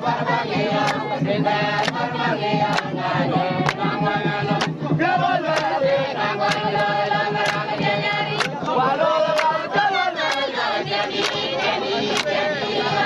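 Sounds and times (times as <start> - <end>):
group of voices chanting: 0.0 - 13.0
sharp percussive beat: 0.0 - 13.0.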